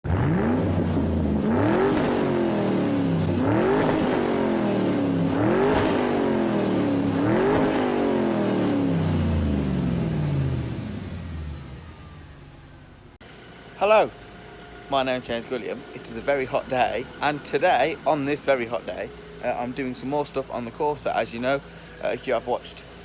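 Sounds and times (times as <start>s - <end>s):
car engine revving: 0.0s - 13.7s, 14.7s - 23.0s.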